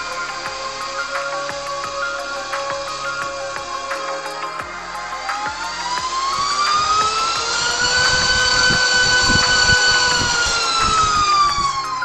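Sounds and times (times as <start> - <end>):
brushless motor whine: 0.0 - 12.0.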